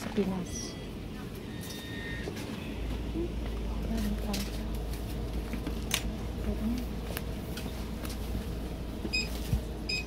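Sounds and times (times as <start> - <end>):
shop background hum: 0.0 - 10.0.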